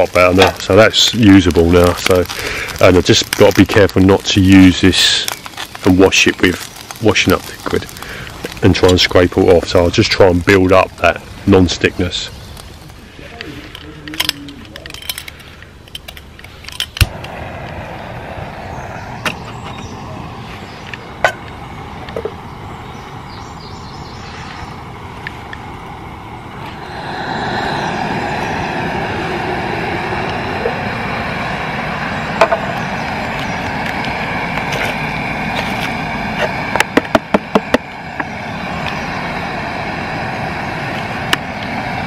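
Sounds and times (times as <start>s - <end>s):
camping stove hissing: 0.0s - 42.0s.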